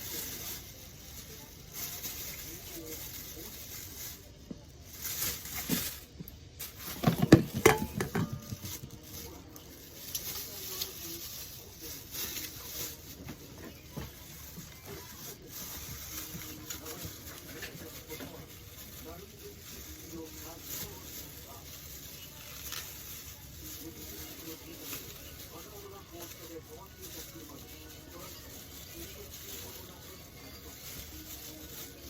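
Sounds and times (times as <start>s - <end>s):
utensils and dishes clinking: 5.0s - 32.0s.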